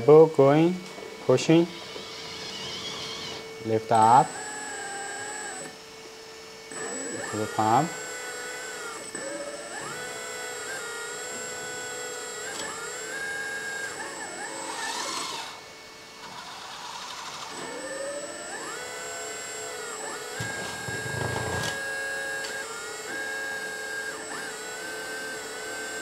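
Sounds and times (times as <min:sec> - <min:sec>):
hydraulic pump whining: 0:00.0 - 0:26.0.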